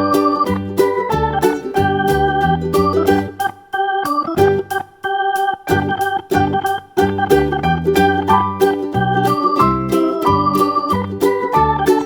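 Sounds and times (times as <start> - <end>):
upbeat plucked string and keyboard music: 0.0 - 12.0.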